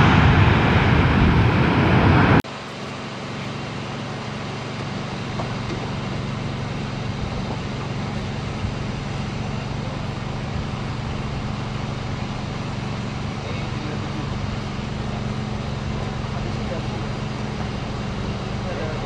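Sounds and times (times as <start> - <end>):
engine humming with hiss: 0.0 - 19.0.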